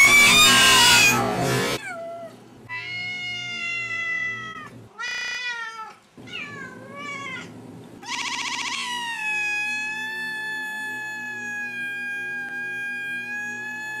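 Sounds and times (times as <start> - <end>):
kittens meowing: 1.8 - 14.0.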